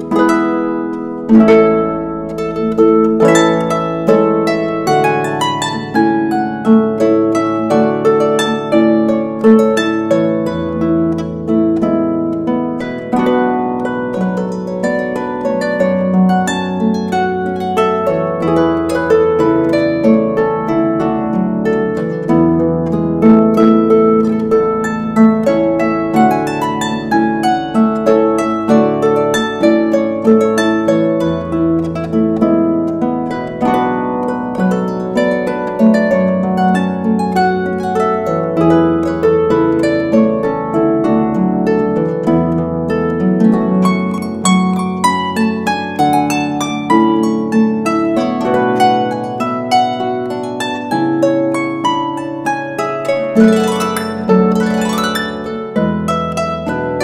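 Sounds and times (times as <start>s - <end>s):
harp playing: 0.0s - 57.0s.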